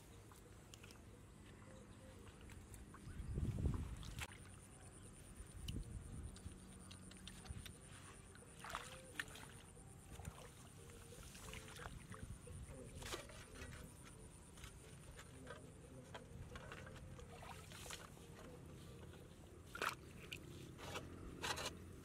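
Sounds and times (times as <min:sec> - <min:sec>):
water sloshing and splashing: 0:02.0 - 0:04.8, 0:06.3 - 0:22.0.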